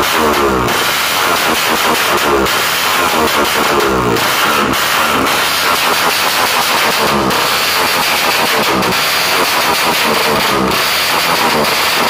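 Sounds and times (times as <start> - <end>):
motorcycle engine running loud: 0.0 - 12.0.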